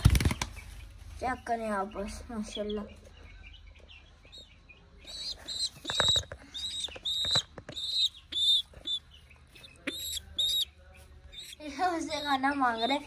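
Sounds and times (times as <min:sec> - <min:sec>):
young bird peeping: 0:00.0 - 0:13.0.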